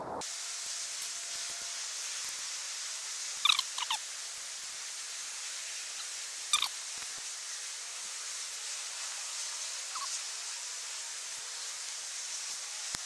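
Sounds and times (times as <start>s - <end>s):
tinder fire hissing and crackling: 0.0s - 13.0s.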